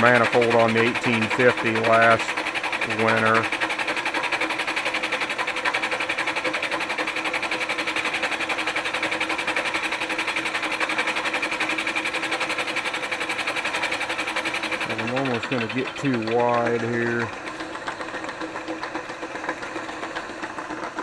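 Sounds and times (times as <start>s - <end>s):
milling cutter chatter: 0.0s - 20.9s.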